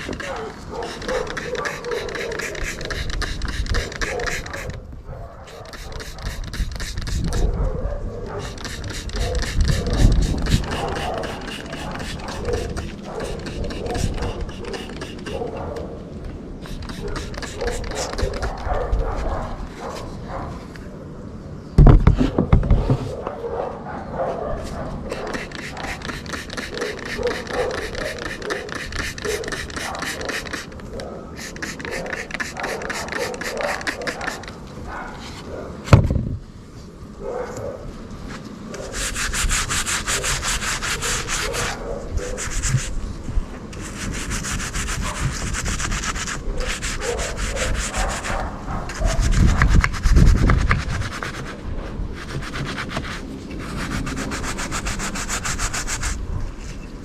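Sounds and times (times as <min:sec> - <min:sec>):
hand scrubbing on metal: 0:00.0 - 0:04.8, 0:05.5 - 0:07.5, 0:08.3 - 0:15.5, 0:16.6 - 0:20.2, 0:24.6 - 0:36.0, 0:38.7 - 0:43.0, 0:43.7 - 0:56.2.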